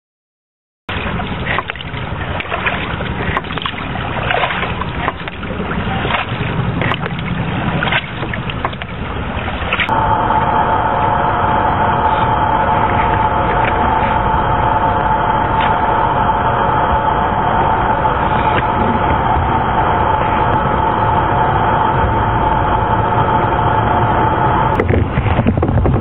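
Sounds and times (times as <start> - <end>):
low wind rumble: 0.9 - 26.0
steady whining tone: 0.9 - 26.0
water rushing and splashing: 0.9 - 26.0.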